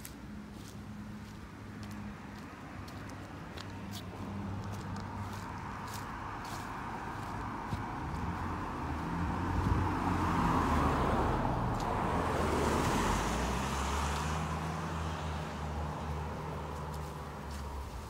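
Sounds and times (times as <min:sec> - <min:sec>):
car passing by: 0:01.9 - 0:18.0.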